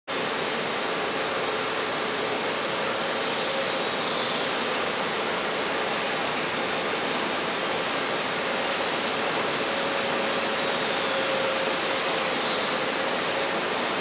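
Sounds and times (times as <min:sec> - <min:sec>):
railway station ambience hiss: 0:00.1 - 0:14.0.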